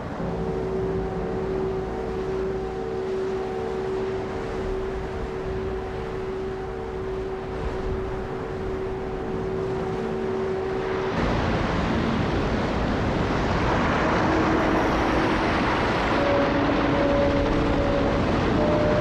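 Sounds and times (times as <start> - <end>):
engine drone: 0.0 - 19.0
heavy sea: 0.0 - 19.0.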